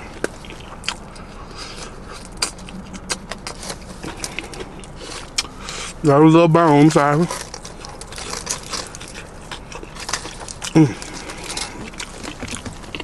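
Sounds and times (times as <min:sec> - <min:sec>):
crunchy chewing: 0:00.0 - 0:06.0, 0:06.8 - 0:13.0.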